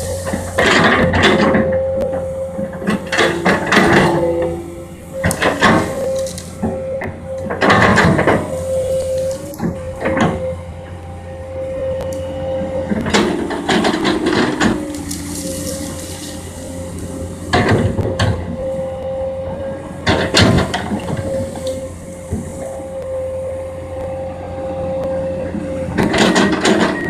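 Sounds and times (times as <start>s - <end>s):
excavator diesel engine whining: 0.0s - 27.0s.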